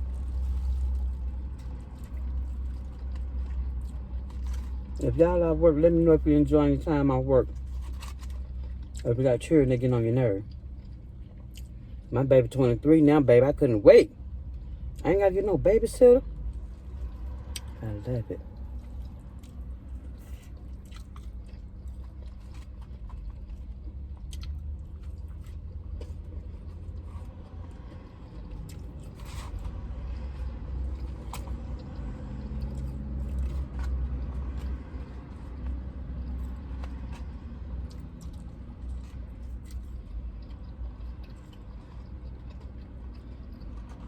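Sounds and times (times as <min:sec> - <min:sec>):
chewing fried food: 0:00.0 - 0:12.9, 0:14.1 - 0:44.0
low rumble inside truck cabin: 0:00.0 - 0:44.0.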